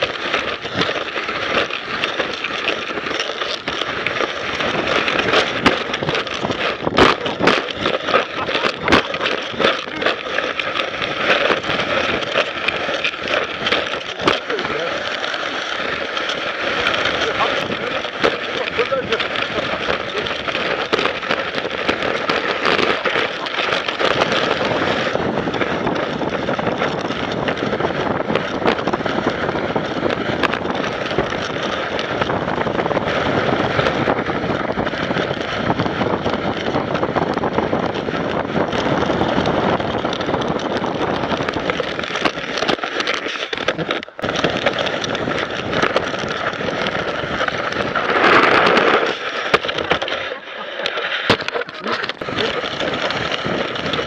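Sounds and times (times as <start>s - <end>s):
sled runners scraping on snow: 0.0s - 54.0s
wind on microphone: 0.0s - 54.0s.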